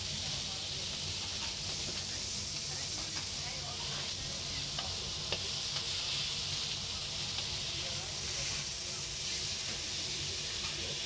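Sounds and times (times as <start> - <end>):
squid sizzling on griddle: 0.0 - 11.0.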